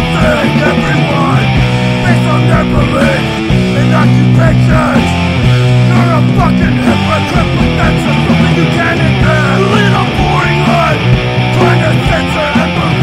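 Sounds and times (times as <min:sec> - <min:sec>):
loud punk rock music: 0:00.0 - 0:13.0.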